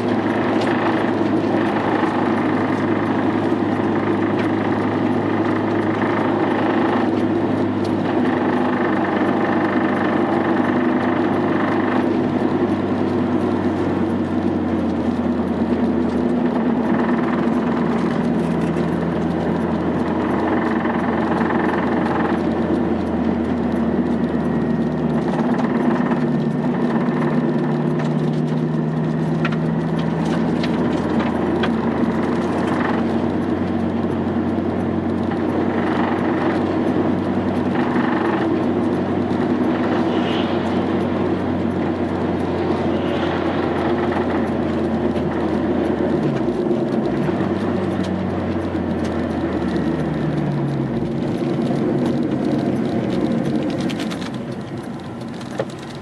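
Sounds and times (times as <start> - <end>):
car engine running at low revs: 0.0 - 56.0.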